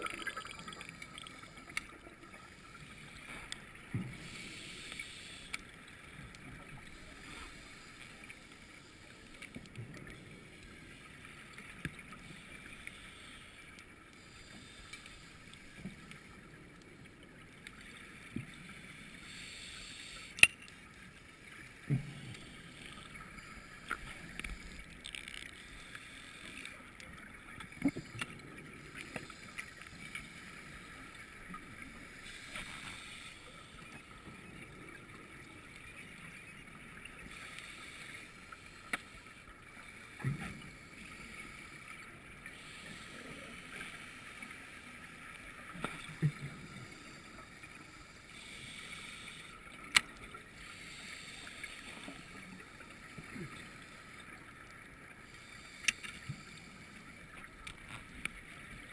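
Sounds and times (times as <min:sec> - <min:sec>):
faint underwater hiss: 0:00.0 - 0:58.9.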